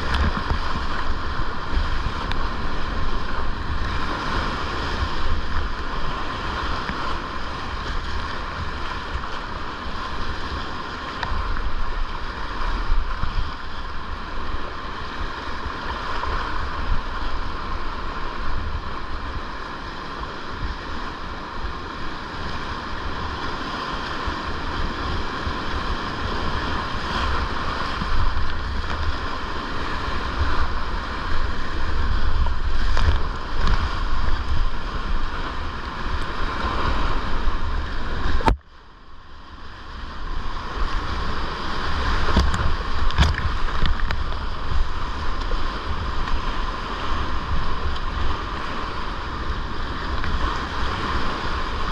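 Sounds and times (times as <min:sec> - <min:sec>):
water splashing: 0:00.0 - 0:38.7, 0:39.9 - 0:51.9
wind buffeting on microphone: 0:00.0 - 0:38.7, 0:39.6 - 0:51.9
paddle strokes: 0:00.0 - 0:51.9
river rapids rushing: 0:00.0 - 0:51.9.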